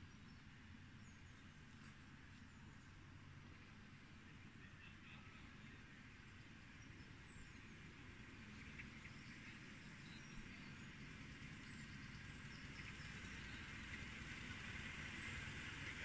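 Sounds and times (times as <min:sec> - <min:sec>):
distant miniature train: 0:00.0 - 0:16.0.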